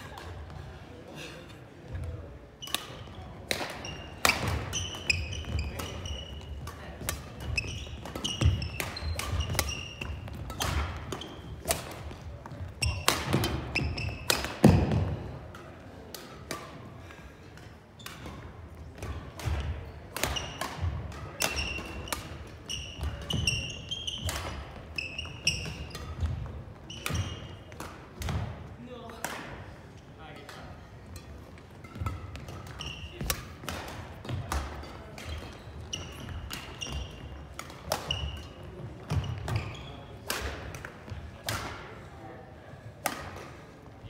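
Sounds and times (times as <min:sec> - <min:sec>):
court shoes squeaking: 0:01.8 - 0:16.8, 0:17.6 - 0:41.8
rackets hitting shuttlecock: 0:02.0 - 0:16.9, 0:17.6 - 0:29.7, 0:30.3 - 0:42.0, 0:42.9 - 0:43.8.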